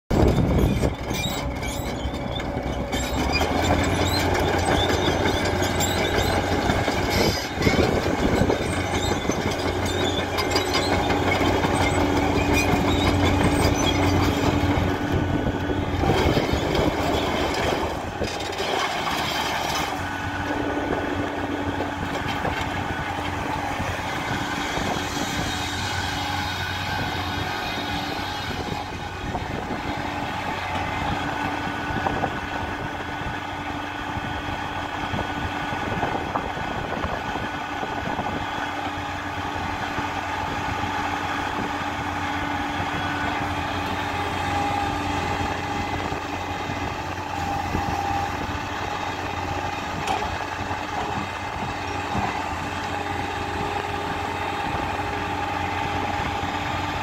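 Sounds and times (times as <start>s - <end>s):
diesel engine running: 0.1s - 57.0s.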